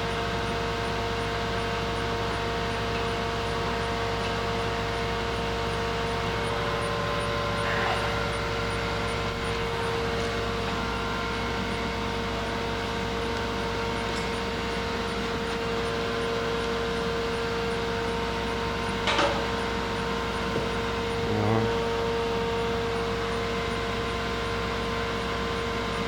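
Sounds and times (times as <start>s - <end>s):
grinder machine hum: 0.0s - 26.0s.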